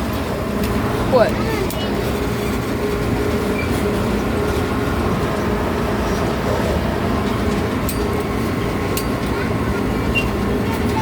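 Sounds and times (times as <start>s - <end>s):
ride train rumbling: 0.0s - 11.0s.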